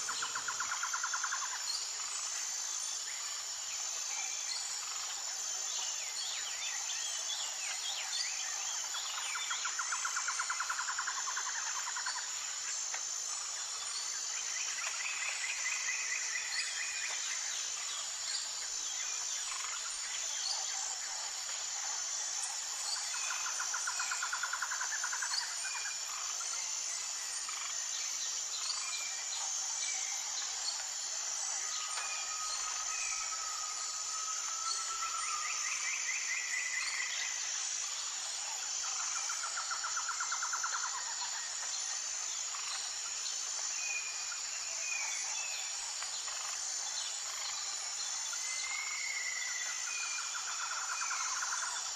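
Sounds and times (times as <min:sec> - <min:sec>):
pulsing insect chorus: 0:00.0 - 0:51.9.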